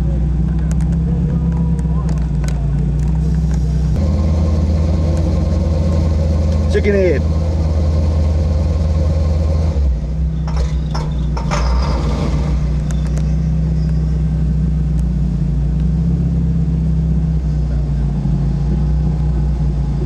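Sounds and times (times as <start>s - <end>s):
truck engine running at low revs: 0.0s - 20.0s.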